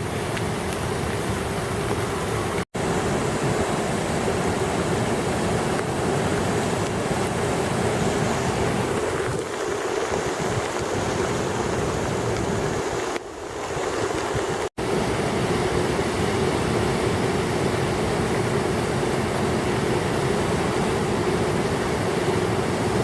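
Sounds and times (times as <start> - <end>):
floodwater rushing in a creek: 0.0 - 23.0.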